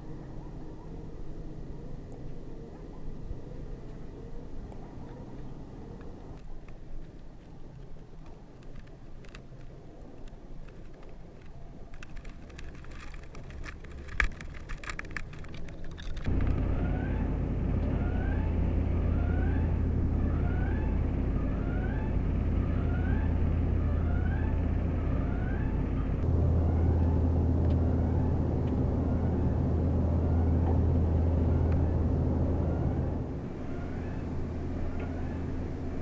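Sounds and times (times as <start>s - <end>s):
low machinery hum: 0.0s - 36.0s.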